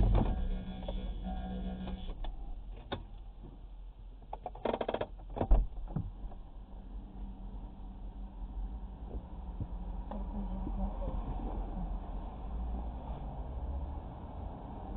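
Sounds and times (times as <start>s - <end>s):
low hum inside car: 0.0s - 14.9s.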